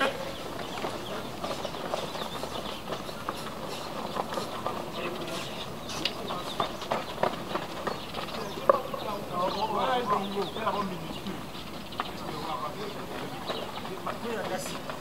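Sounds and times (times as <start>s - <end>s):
chirps: 0.0s - 14.0s
distant voices: 0.0s - 15.0s.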